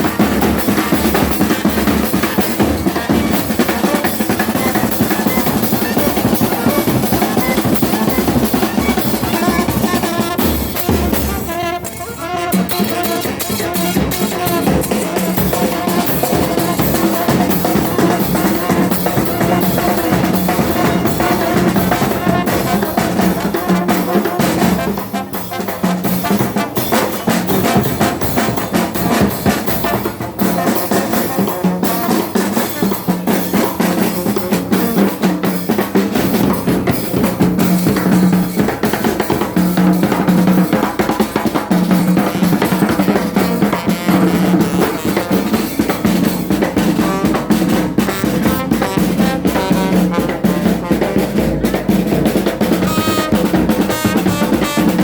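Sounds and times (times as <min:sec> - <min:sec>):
folk band playing: 0:00.0 - 0:55.0
snare drum and bass drum beat: 0:00.0 - 0:55.0
wind instruments holding notes: 0:00.0 - 0:55.0.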